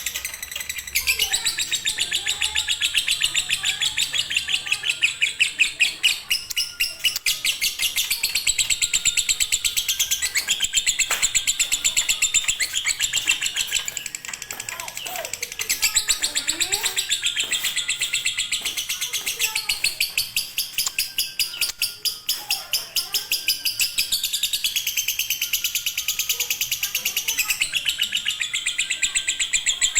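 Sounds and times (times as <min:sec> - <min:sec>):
lovebird chirping: 0:00.0 - 0:29.9.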